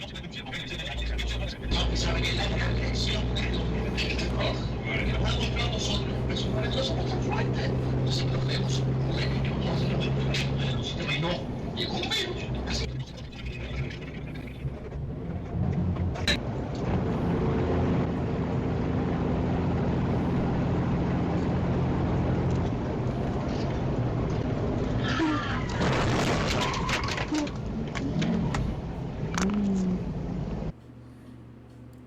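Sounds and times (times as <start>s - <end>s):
engine knocking and clattering: 0.0s - 30.7s
vehicle engine running: 0.0s - 30.8s.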